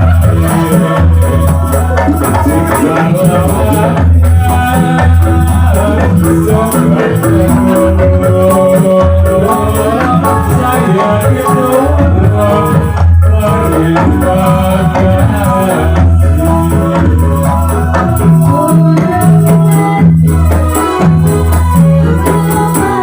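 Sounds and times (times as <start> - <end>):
deep drum beats: 0.0 - 23.0
held melody: 0.0 - 23.0
jingling rattling percussion: 0.0 - 23.0.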